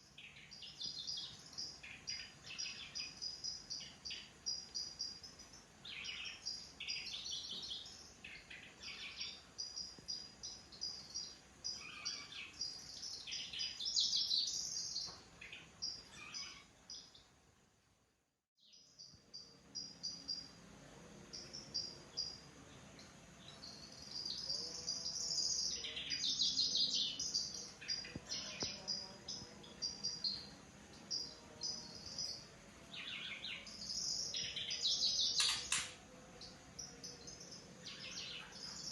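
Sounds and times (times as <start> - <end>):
songbird buzzy chirping: 0.0 - 17.4, 18.6 - 38.9.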